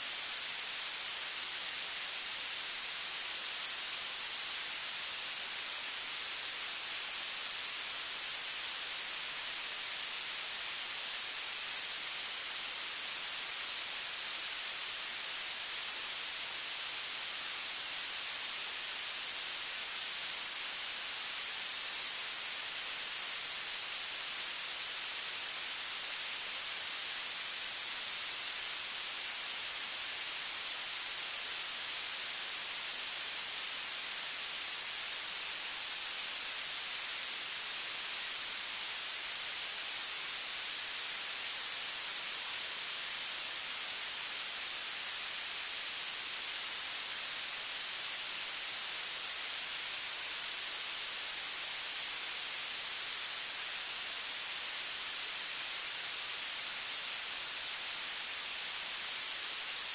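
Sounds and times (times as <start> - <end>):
static hiss: 0.0 - 59.9.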